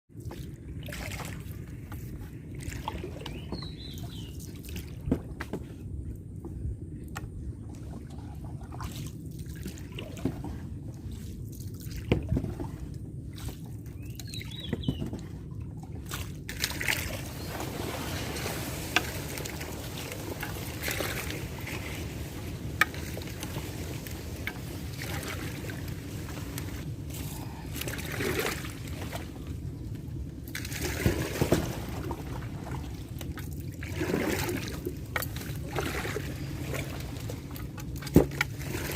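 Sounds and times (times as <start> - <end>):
water sloshing and trickling: 0.1 - 38.9.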